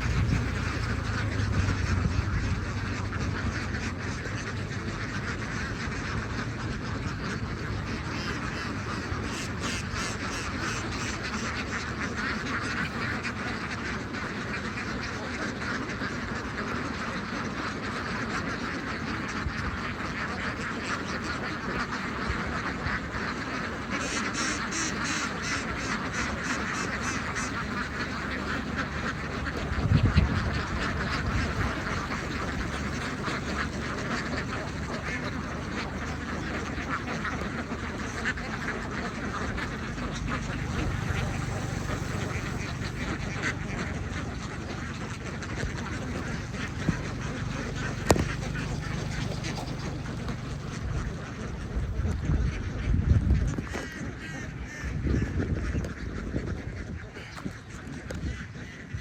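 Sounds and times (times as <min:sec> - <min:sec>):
ducks quacking: 0:00.0 - 0:59.0.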